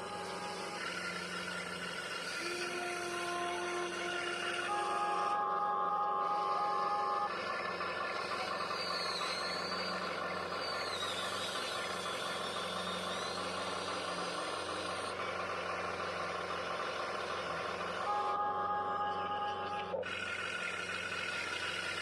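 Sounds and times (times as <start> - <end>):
electric motors whirring: 0.0 - 22.0.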